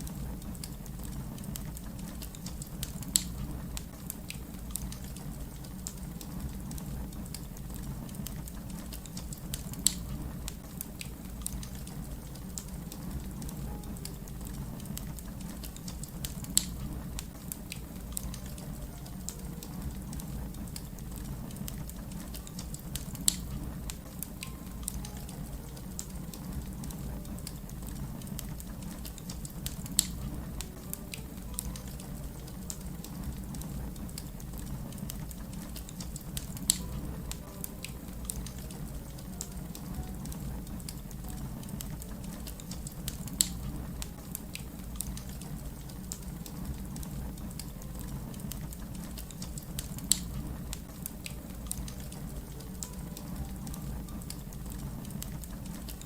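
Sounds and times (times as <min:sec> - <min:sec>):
fire crackling: 0:00.0 - 0:56.0
fire popping: 0:00.0 - 0:56.0.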